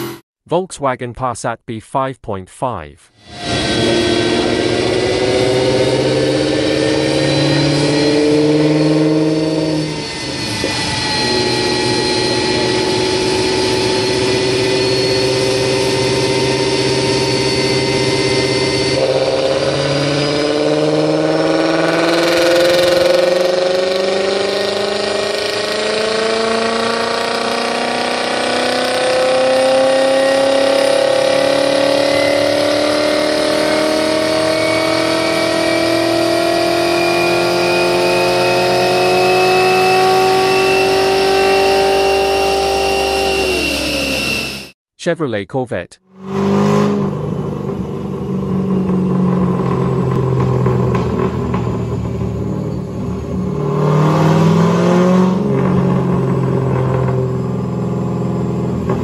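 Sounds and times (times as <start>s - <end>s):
car engine revving on dyno: 0.0s - 0.2s, 3.2s - 44.7s, 46.1s - 59.0s.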